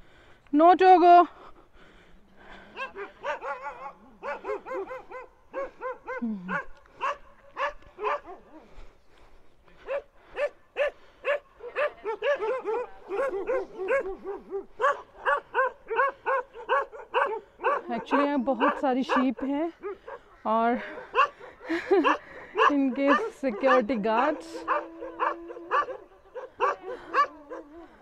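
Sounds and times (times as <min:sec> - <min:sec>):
dogs barking: 0:02.6 - 0:08.8, 0:09.8 - 0:28.0.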